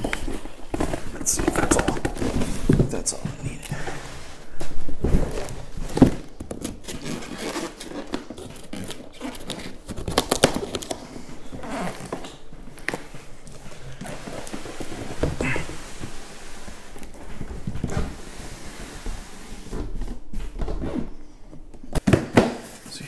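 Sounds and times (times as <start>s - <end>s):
cardboard box scraping: 0.0s - 12.5s, 13.2s - 21.2s.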